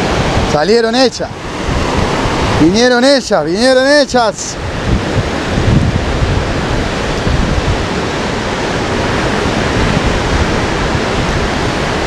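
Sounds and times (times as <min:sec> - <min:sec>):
ocean surf against rocks: 0:00.0 - 0:12.0
wind on microphone: 0:00.0 - 0:12.0.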